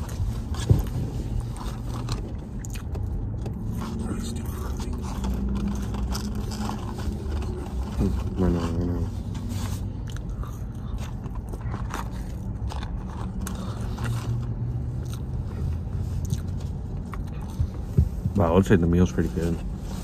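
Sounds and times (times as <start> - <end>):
man chewing fries: 1.4 - 17.9.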